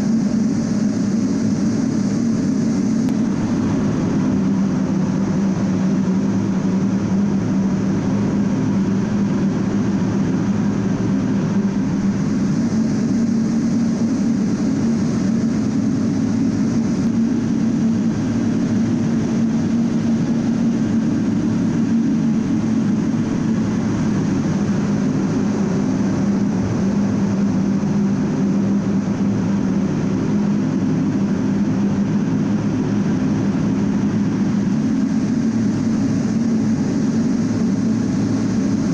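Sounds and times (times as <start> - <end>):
jet cockpit engine hum: 0.0 - 38.9.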